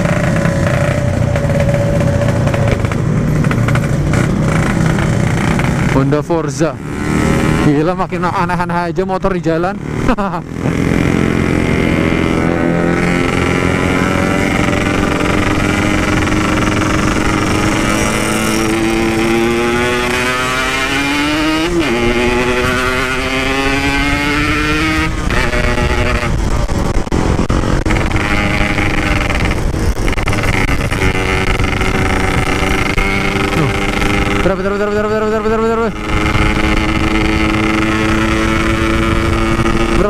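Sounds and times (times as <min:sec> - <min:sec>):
two-stroke motorcycle revving: 0:00.0 - 0:40.0.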